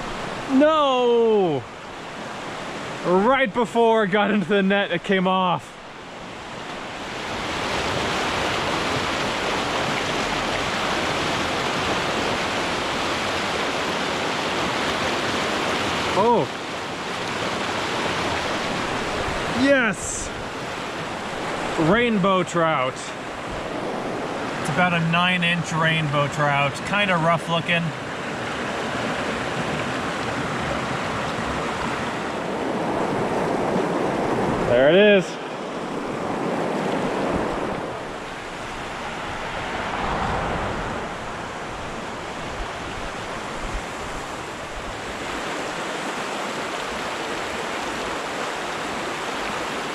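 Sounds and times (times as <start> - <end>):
rushing creek water: 0.0 - 49.9.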